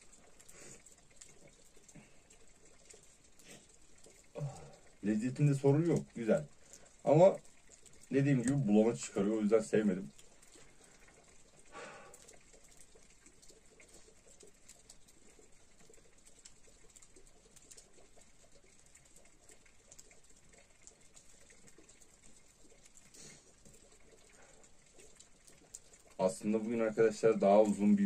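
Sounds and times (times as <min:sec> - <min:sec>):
meltwater dripping from trees: 0:00.0 - 0:28.0.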